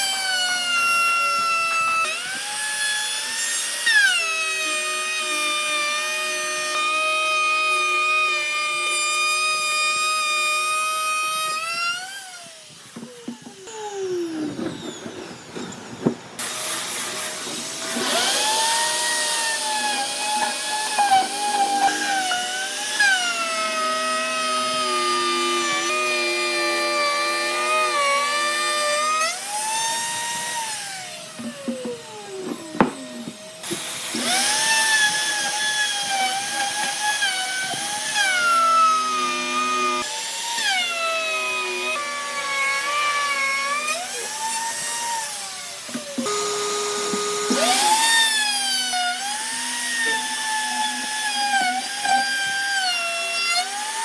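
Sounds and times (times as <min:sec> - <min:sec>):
power tool motor whining: 0:00.0 - 0:54.0.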